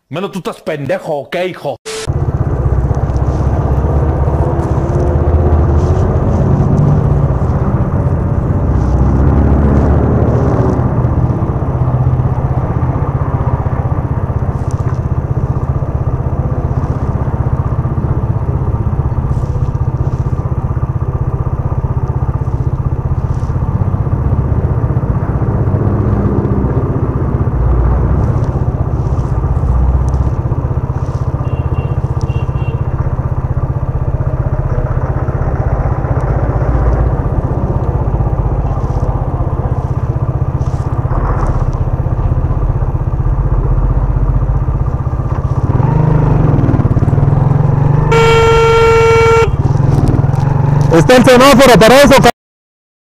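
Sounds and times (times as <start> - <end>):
traffic passing: 2.0 - 52.3
motorcycle engine idling: 2.1 - 9.7, 10.3 - 51.0.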